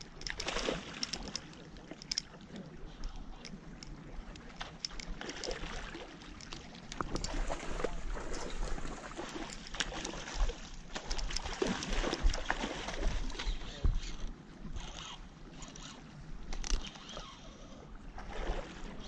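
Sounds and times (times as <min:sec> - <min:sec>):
fish splashing and thrashing: 0:00.0 - 0:17.4
water sloshing: 0:00.0 - 0:19.0.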